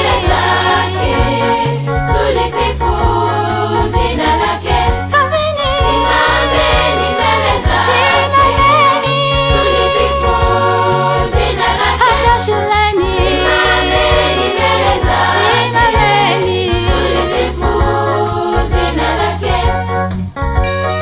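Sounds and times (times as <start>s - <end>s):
girls' choir singing in harmony: 0.0s - 5.1s, 5.8s - 19.8s
lead voice singing: 0.0s - 19.6s
instrumental backing with bass line: 0.0s - 21.0s.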